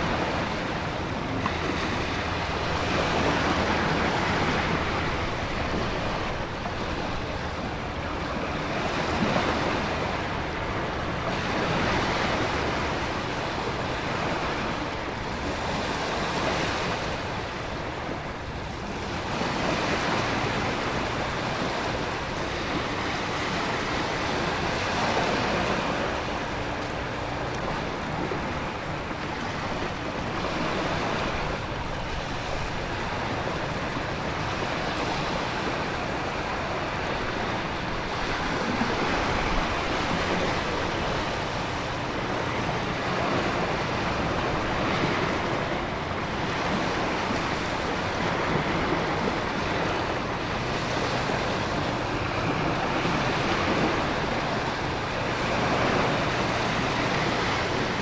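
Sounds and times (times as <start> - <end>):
ocean surf crashing: 0.0 - 58.0
wind: 0.0 - 58.0.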